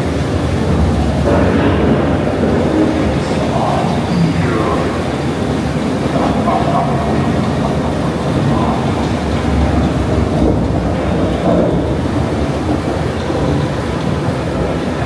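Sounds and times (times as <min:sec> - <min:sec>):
ride car rumbling on track: 0:00.0 - 0:15.0.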